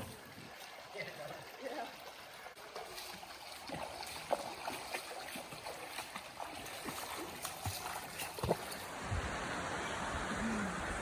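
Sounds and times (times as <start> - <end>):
creek water splashing over rocks: 0.0 - 11.0.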